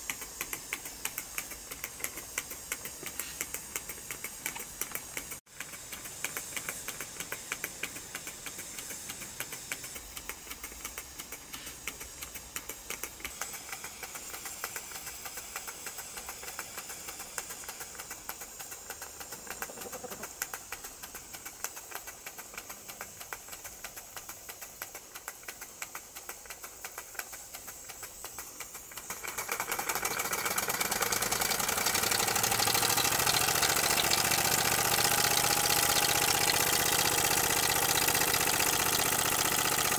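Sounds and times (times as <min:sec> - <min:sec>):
steam engine ticking: 0:00.0 - 0:39.9
steam hissing: 0:00.0 - 0:39.9.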